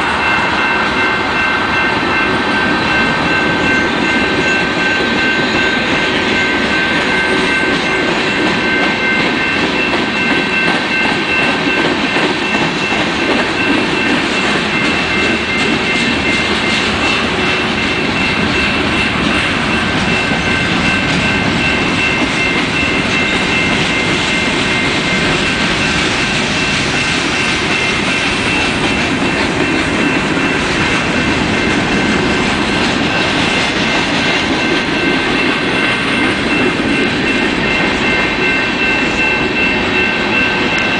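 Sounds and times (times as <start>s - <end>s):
steady high tones: 0.0s - 40.9s
train wheels rumbling on rail: 0.0s - 40.9s.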